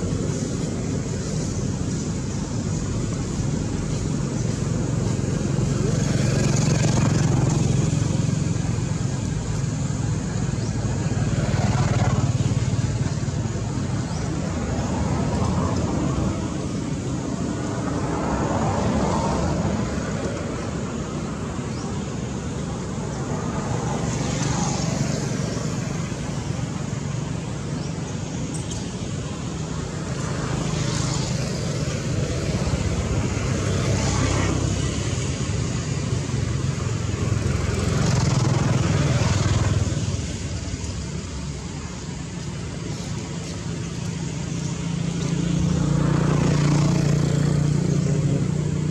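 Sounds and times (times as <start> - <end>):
passing vehicles and motorbikes: 0.0 - 48.9
road traffic noise: 0.0 - 48.9.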